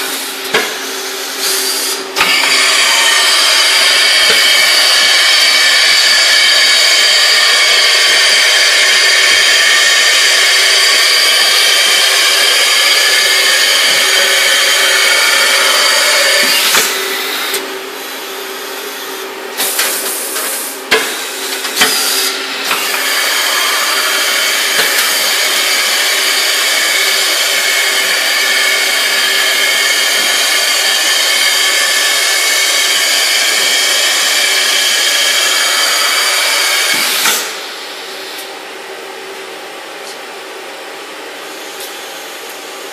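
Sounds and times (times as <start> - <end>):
machining center whine: 0.0 - 42.9.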